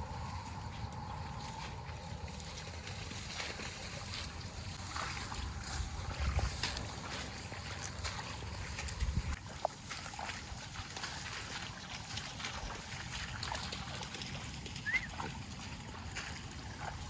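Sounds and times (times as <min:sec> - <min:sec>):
water sloshing and trickling: 0:00.0 - 0:17.0.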